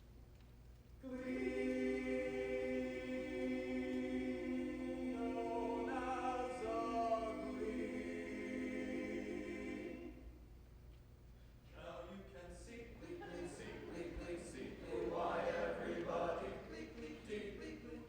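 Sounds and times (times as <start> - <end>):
choir singing held chords: 1.0 - 10.5, 11.8 - 18.0.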